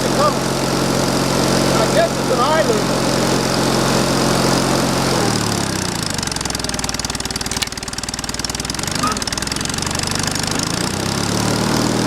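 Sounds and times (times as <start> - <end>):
small gas engine running: 0.0 - 12.0.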